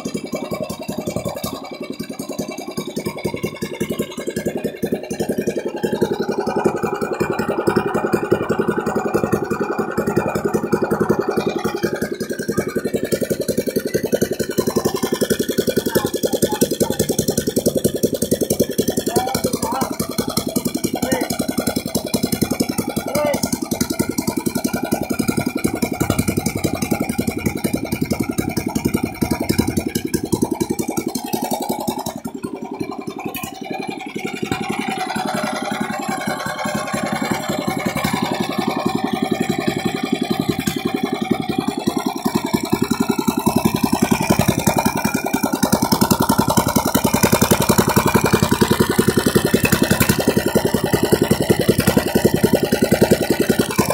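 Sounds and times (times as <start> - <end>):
single-cylinder engine running: 0.0 - 53.9.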